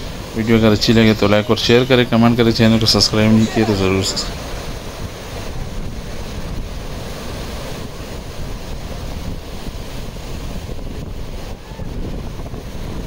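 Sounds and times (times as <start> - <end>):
stream rushing over rocks: 0.0 - 13.0
wind buffeting microphone: 0.0 - 13.0.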